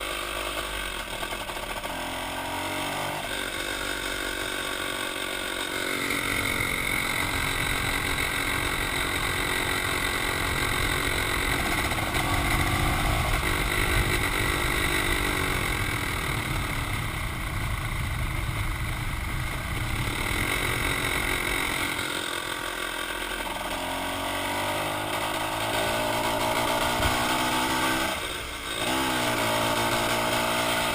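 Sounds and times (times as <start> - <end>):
two-stroke engine running: 0.0 - 30.9.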